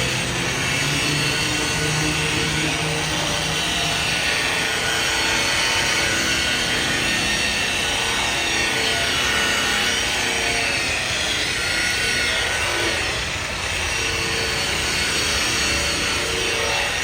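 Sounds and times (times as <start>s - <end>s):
electric polisher running: 0.0s - 17.0s.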